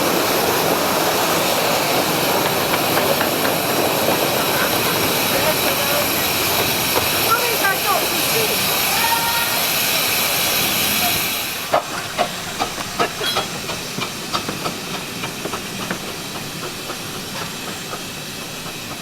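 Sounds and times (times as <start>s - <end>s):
steam hissing: 0.0s - 19.0s.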